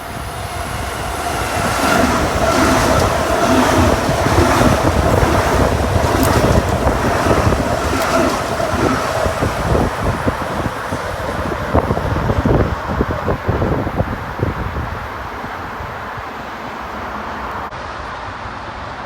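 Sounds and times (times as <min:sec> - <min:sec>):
wind buffeting microphone: 0:00.0 - 0:16.6
train rumbling past: 0:00.0 - 0:19.0.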